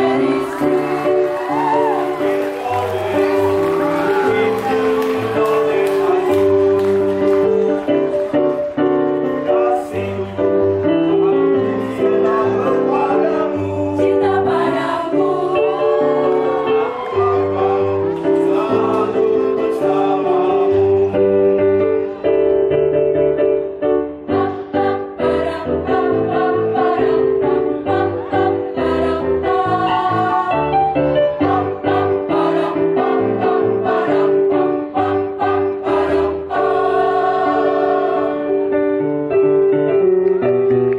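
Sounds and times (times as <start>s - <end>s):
mixed choir singing: 0.0s - 22.0s, 24.2s - 38.9s.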